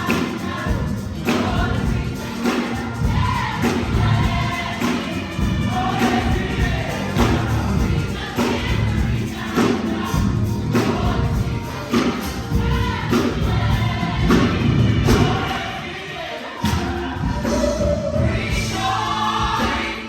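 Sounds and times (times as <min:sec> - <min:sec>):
band playing: 0:00.0 - 0:20.0
choir singing gospel: 0:00.0 - 0:20.0.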